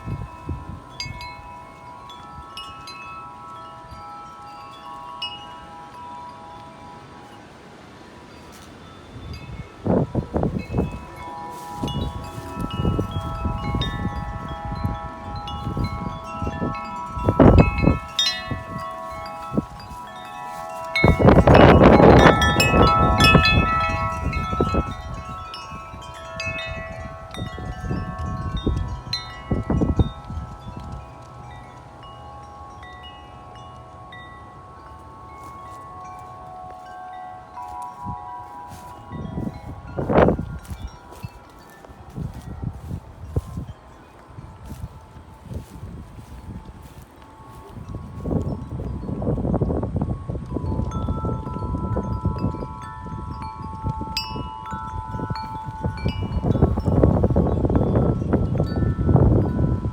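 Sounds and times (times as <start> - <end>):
wind buffeting microphone: 0.0 - 59.9
wind chimes ringing: 0.0 - 59.9.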